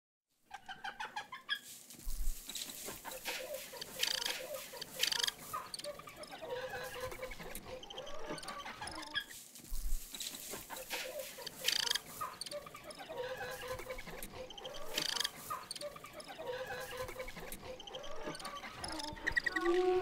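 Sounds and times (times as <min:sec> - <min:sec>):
hens clucking: 0:00.5 - 0:01.6, 0:02.6 - 0:09.3, 0:10.3 - 0:20.0.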